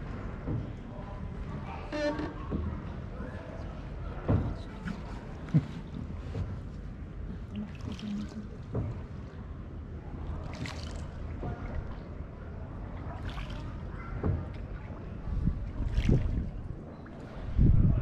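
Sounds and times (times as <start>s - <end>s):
oar swishing through water: 0.0s - 18.0s.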